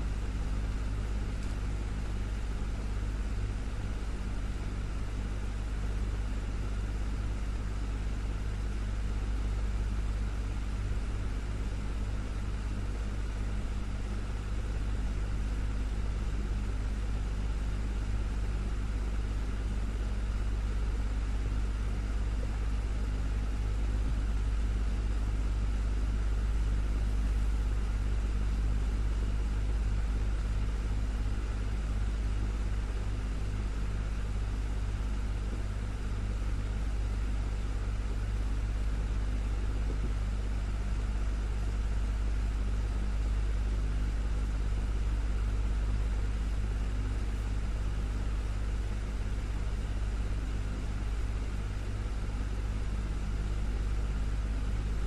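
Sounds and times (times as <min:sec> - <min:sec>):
desktop fan humming: 0:00.0 - 0:55.0.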